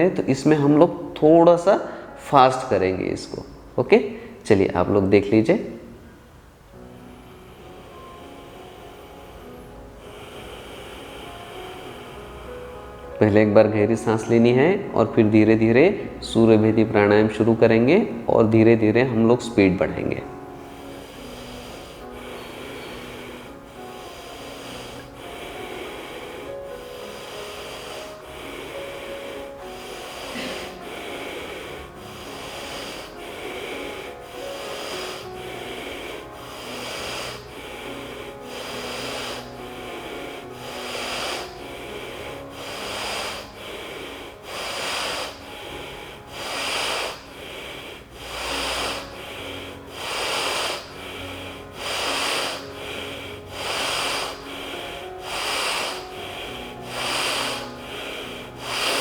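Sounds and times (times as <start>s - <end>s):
forceful nasal breathing: 0.0s - 59.0s
soft background music: 0.0s - 59.0s.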